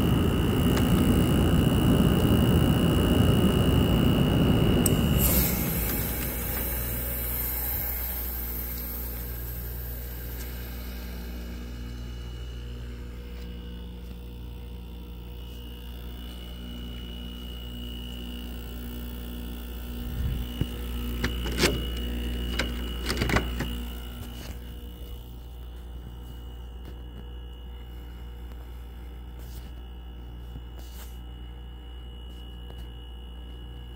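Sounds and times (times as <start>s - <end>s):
compressor hum with high whine: 0.0s - 33.9s.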